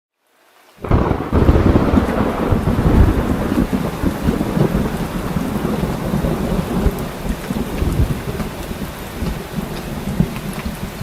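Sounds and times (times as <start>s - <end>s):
heavy rain falling: 0.2s - 11.0s
low rumble of thunder: 0.8s - 11.0s.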